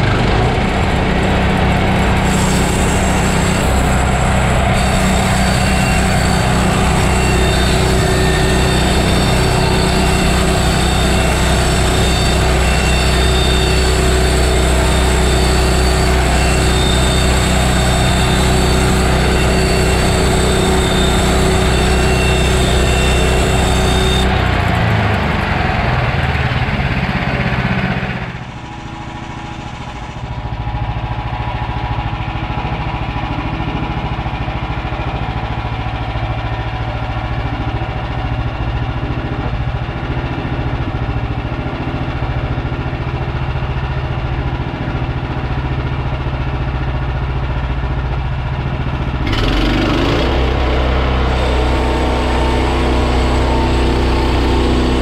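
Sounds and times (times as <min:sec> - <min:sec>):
bandsaw mill engine running: 0:00.0 - 0:55.0.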